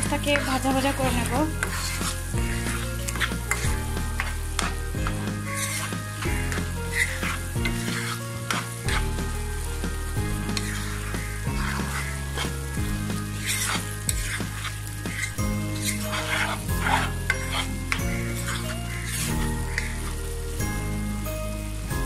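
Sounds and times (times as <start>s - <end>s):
spatula scraping and knocking pan: 0.0s - 20.2s
food sizzling in pan: 0.0s - 22.0s.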